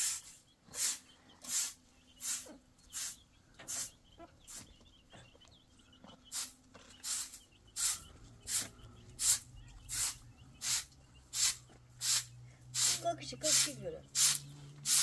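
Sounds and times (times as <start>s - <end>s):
broom sweeping earth: 0.0s - 3.9s, 6.3s - 15.0s.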